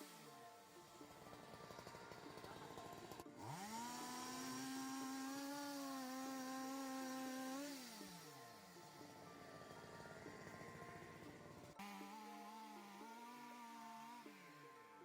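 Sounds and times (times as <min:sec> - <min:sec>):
power tool motor spinning: 0:00.0 - 0:15.0.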